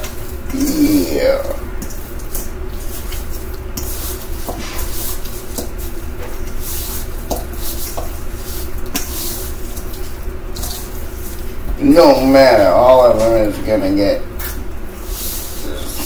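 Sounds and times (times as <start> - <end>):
steady low hum: 0.0 - 16.0
wet squishing and rustling: 0.0 - 16.0.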